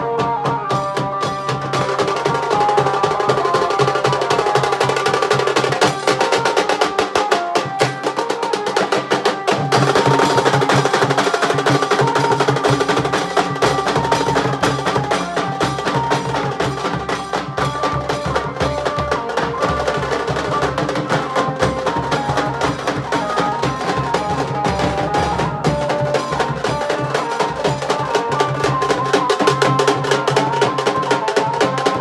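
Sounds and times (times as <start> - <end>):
drum ensemble fast rhythm: 0.0 - 32.0.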